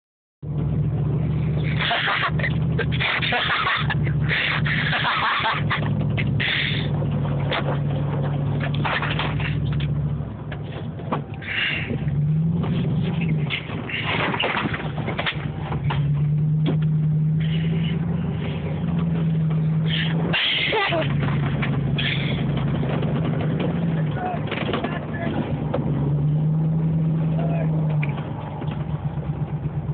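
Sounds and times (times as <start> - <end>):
pickup engine revving: 0.4 - 29.9.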